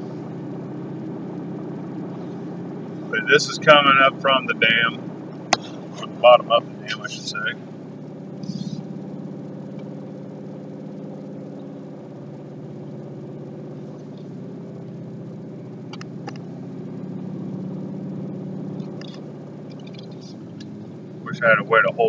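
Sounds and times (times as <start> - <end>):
vehicle engine and road hum: 0.0 - 22.0.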